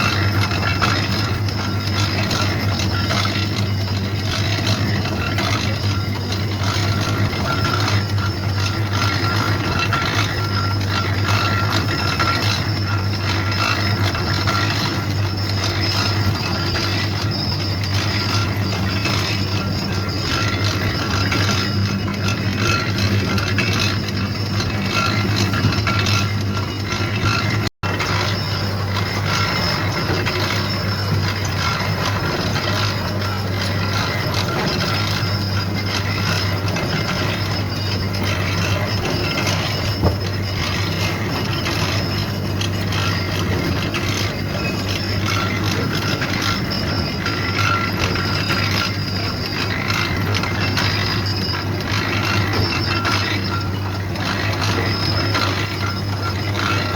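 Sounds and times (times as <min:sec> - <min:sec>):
factory machinery running: 0:00.0 - 0:56.9.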